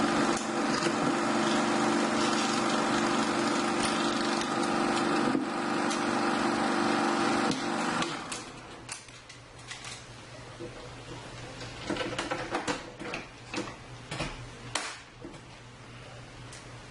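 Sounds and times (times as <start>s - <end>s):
film projector hum: 0.0s - 14.0s.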